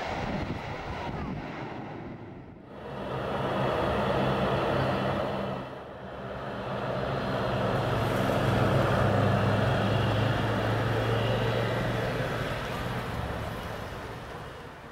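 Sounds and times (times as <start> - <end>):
turboprop propeller drone: 0.0 - 14.4.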